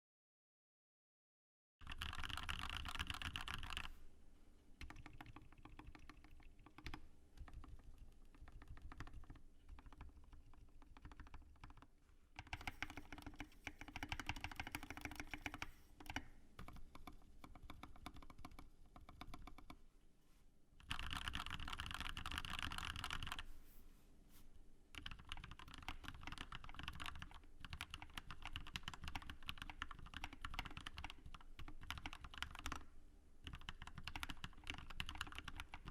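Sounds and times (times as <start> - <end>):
mechanical keyboard typing: 1.8 - 4.0, 4.8 - 19.8, 20.8 - 23.4, 24.9 - 35.9.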